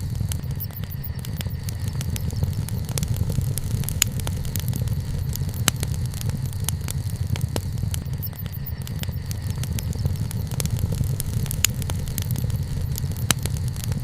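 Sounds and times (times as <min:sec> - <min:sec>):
campfire crackling: 0:00.0 - 0:14.0
fire popping: 0:00.0 - 0:14.0.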